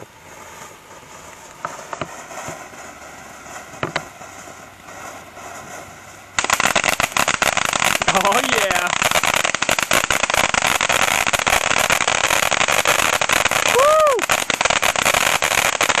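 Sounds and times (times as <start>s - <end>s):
dense loud crackling: 0.0s - 16.0s
firework pops: 0.0s - 16.0s
fountain firework hissing: 0.0s - 16.0s.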